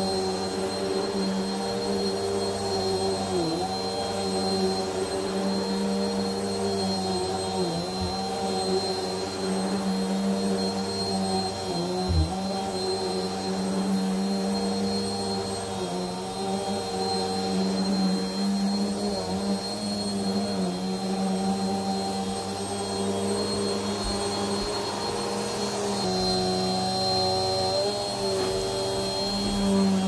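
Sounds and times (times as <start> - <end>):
vacuum cleaner motor hum: 0.0 - 30.0.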